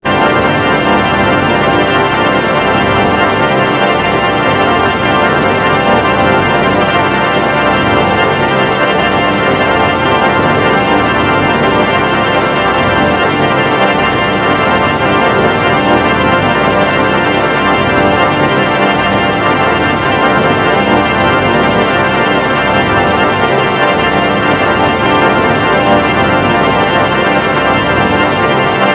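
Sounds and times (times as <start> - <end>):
electronic drone of held tones: 0.1 - 28.9.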